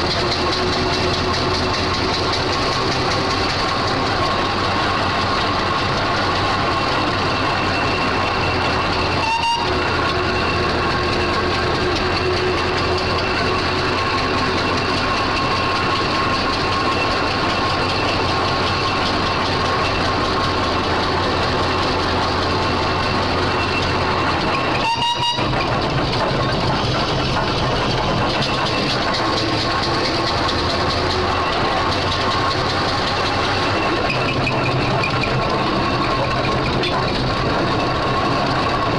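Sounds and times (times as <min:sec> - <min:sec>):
steam engine mechanical clatter: 0:00.0 - 0:38.9.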